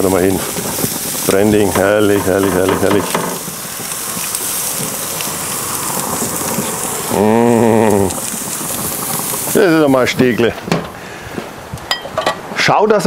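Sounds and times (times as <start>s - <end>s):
meat sizzling on a grill: 0.0s - 11.9s.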